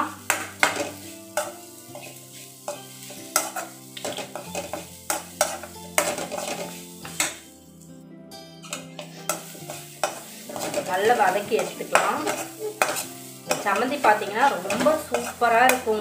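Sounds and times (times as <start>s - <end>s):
food sizzling in oil: 0.0s - 16.0s
spoon scraping a pan: 0.1s - 7.6s, 8.5s - 16.0s.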